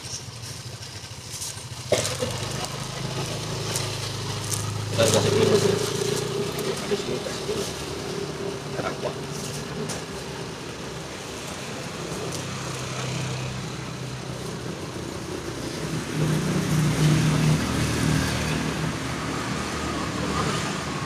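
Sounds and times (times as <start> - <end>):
motorcycle engine running: 0.0 - 21.0
roadside traffic noise: 0.0 - 21.0.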